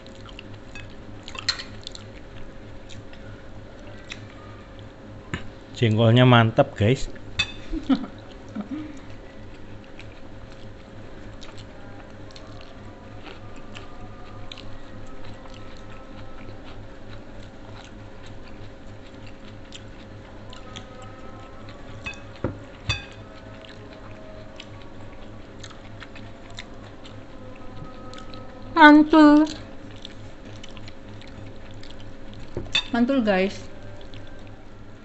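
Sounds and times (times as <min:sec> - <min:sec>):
chewing and mouth noises: 0:00.0 - 0:05.5, 0:07.2 - 0:34.8
faint steady hum: 0:00.0 - 0:35.0.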